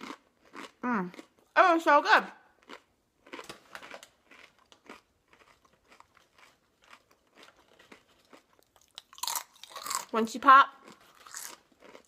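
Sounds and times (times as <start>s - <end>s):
person chewing crunchy crackers: 0.0s - 1.6s, 2.4s - 12.0s.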